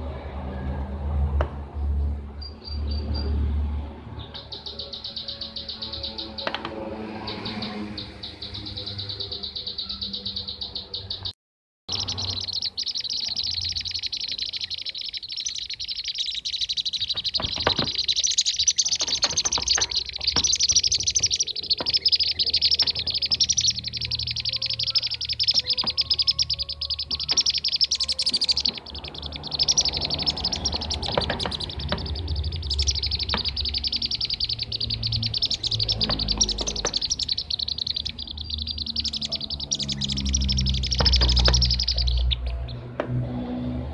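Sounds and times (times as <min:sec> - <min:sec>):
rapid high-pitched bird chattering: 0:04.2 - 0:11.3, 0:11.9 - 0:42.8.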